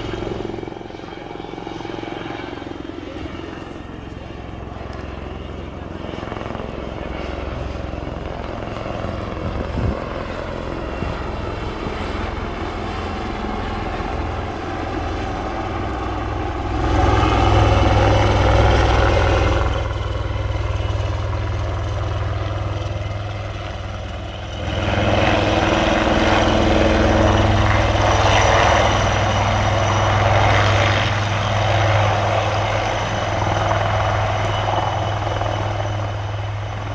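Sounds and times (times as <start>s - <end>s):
helicopter engine whine: 0.0s - 36.9s
helicopter rotor throb: 0.0s - 36.9s.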